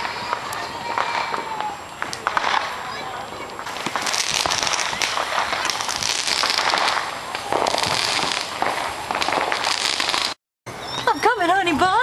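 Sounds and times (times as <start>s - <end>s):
fireworks crackling: 0.0s - 10.4s.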